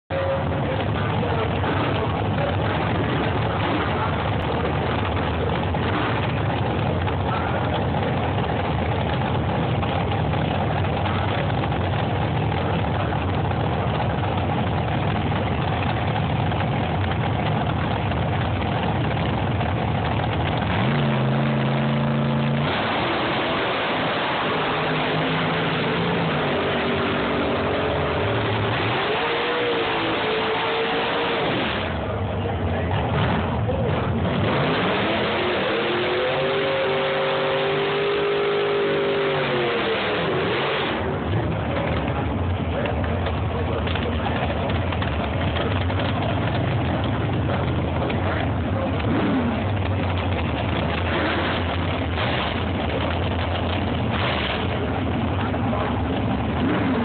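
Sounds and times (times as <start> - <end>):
dragster engine idling and revving: 0.0 - 57.0.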